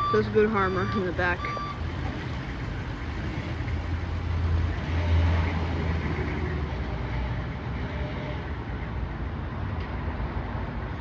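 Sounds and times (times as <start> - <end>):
large vehicle engine rumble: 0.0 - 11.0
traffic noise: 0.0 - 11.0.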